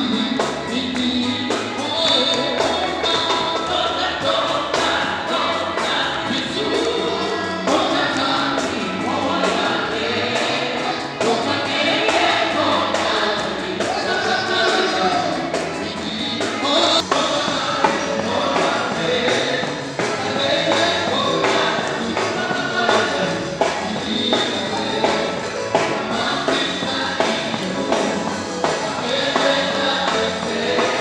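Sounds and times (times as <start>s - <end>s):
congregation singing a worship song: 0.0s - 31.0s
music with a steady beat: 0.0s - 31.0s.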